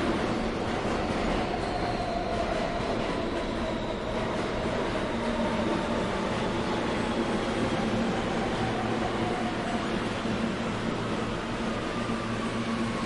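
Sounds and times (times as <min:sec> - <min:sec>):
subway train rumbling on tracks: 0:00.0 - 0:13.0.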